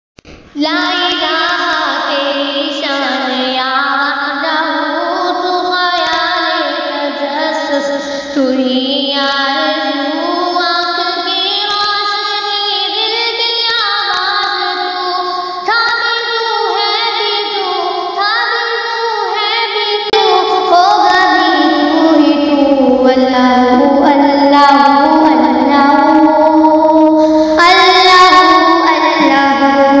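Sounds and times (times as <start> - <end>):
high voice singing devotional song: 0.3 - 30.0.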